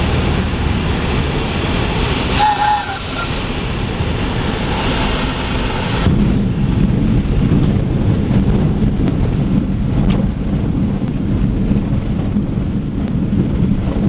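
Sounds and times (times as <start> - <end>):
small plane engine at low power: 0.0 - 14.0
wheels rumbling over rough ground: 0.0 - 14.0.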